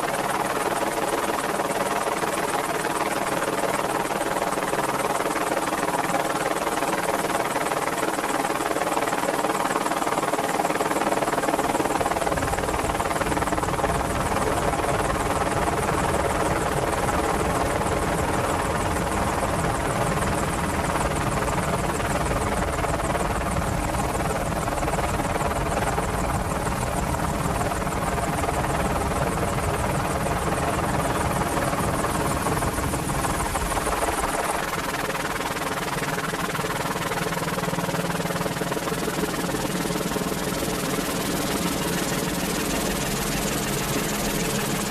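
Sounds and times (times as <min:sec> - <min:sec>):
helicopter engines and rotors: 0:00.0 - 0:44.9.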